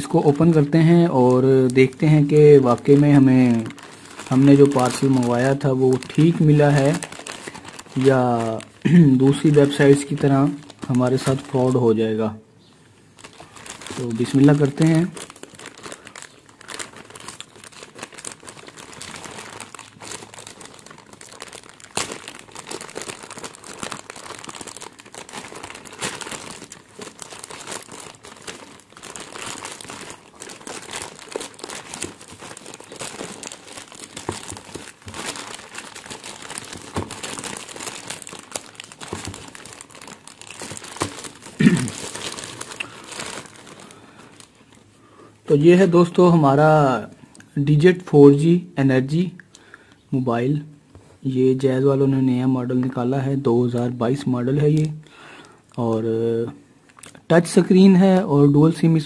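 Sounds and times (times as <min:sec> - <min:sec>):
plastic bag crinkling and tearing: 0:00.0 - 0:12.2, 0:13.1 - 0:44.9, 0:51.6 - 0:56.1.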